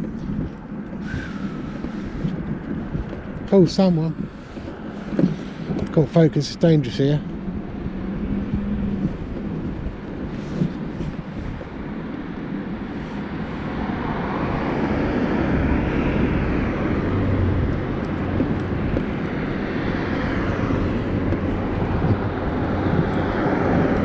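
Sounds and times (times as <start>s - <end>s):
tyres on road: 0.0s - 24.0s
vehicle engine: 0.0s - 24.0s.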